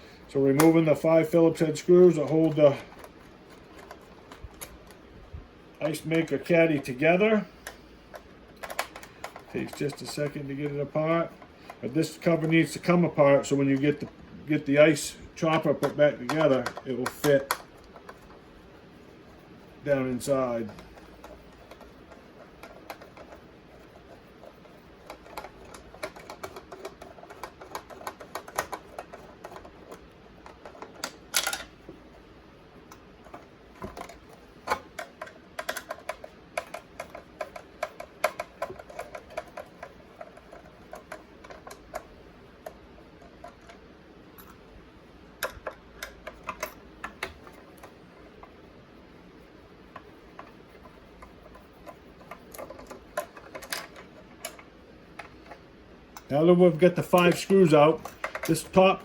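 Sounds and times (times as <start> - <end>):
plastic parts clacking: 0.2 - 5.1, 5.7 - 14.3, 14.9 - 18.5, 19.9 - 48.6, 49.3 - 59.0.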